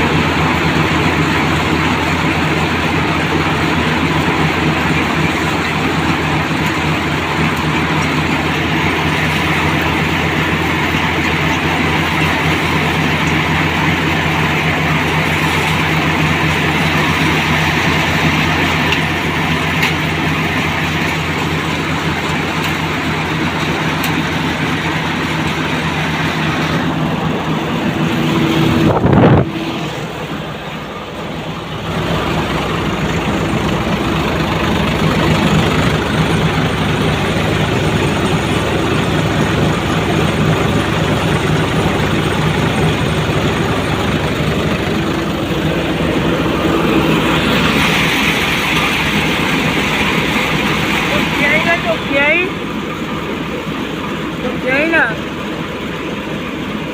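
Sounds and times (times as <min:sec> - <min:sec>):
thresher clatter and whir: 0:00.0 - 0:56.9
tractor engine drone: 0:00.0 - 0:56.9.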